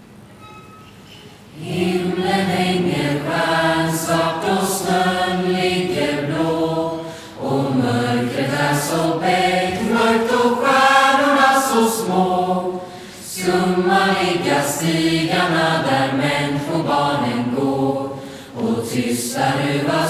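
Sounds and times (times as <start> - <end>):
choir singing: 1.5 - 20.0.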